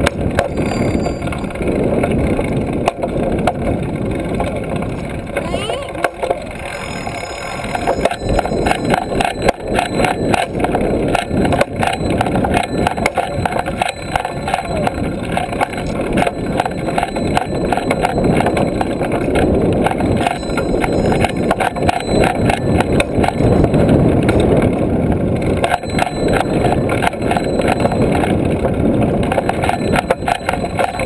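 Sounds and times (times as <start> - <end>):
wind buffeting: 0.0 - 31.0.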